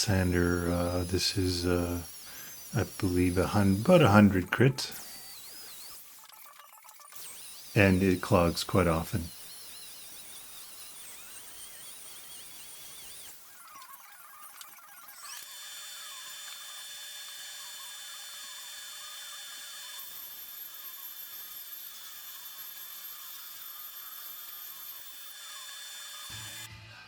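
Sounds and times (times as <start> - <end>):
belt sander whining: 0.0 - 6.2, 7.2 - 26.7.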